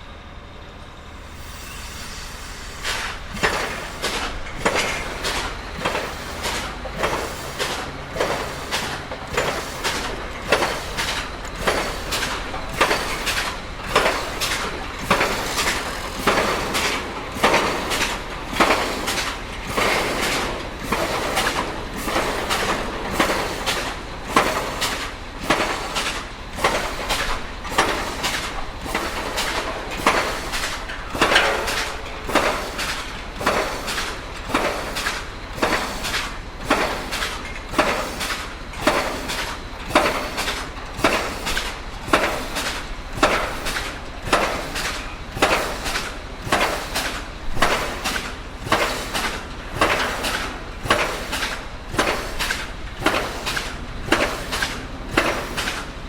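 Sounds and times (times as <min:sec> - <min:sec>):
pile driver engine drone: 0:00.0 - 0:56.0.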